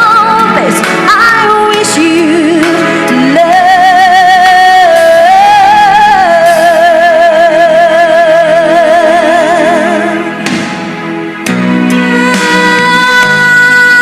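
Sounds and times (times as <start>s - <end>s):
soft backing music: 0.0s - 14.0s.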